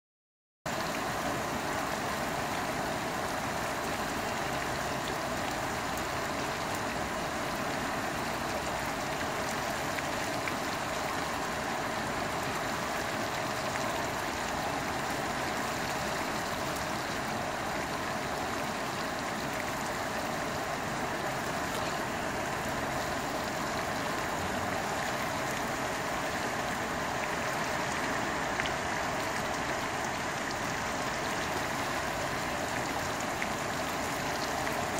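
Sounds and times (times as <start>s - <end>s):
rain falling on water: 0.7s - 34.9s.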